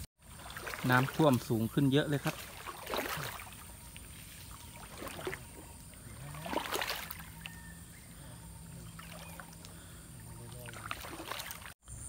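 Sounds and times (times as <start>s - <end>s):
wading through water splashing: 0.0s - 11.8s.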